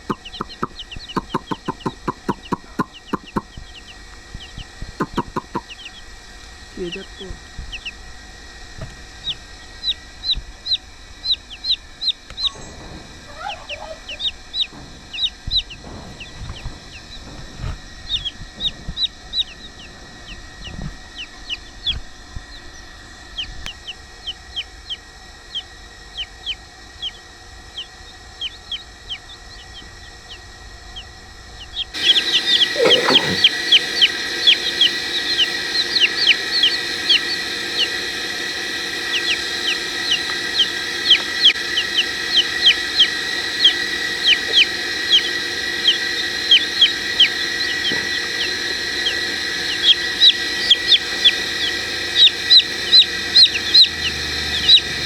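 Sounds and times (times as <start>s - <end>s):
chicks peeping: 0.0s - 6.2s, 6.8s - 8.0s, 8.8s - 55.0s.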